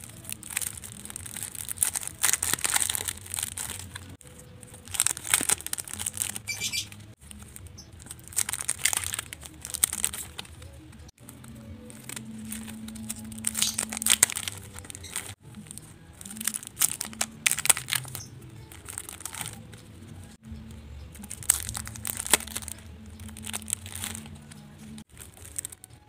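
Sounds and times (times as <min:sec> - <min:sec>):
cellophane crinkling: 0:00.0 - 0:20.4, 0:21.0 - 0:26.0.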